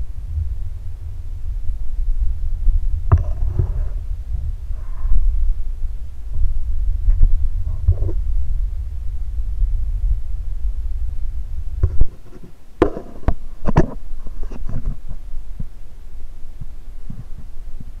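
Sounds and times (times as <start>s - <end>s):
low underwater rumble: 0.0s - 18.0s.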